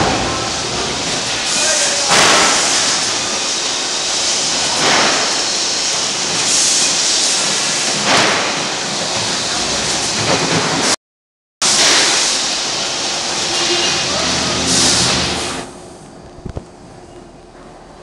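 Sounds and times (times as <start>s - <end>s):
conveyor machinery hissing: 0.0s - 10.9s, 11.6s - 16.0s.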